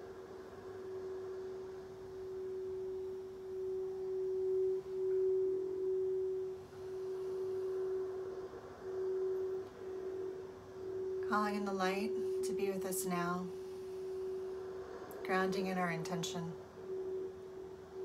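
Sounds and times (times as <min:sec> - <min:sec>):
singing bowl ringing tone: 0:00.0 - 0:18.0.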